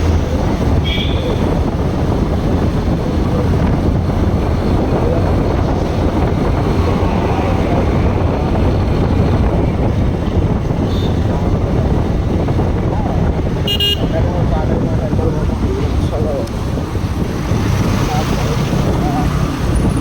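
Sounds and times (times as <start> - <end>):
motorcycle engine: 0.0 - 20.0
road noise: 0.0 - 20.0
wind buffeting microphone: 0.0 - 20.0.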